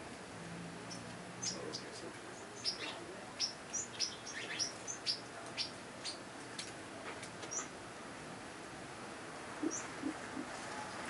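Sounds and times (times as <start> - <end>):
songbirds chirping: 0.6 - 11.0.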